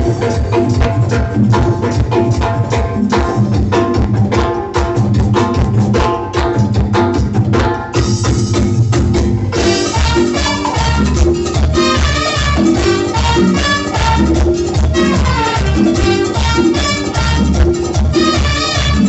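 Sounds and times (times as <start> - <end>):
live salsa band: 0.0 - 19.0.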